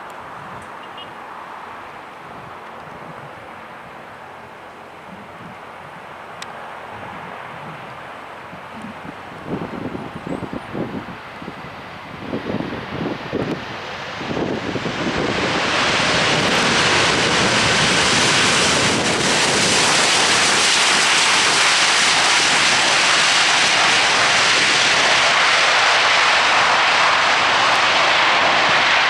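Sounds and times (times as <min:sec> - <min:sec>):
jet engine noise: 0:00.0 - 0:29.0.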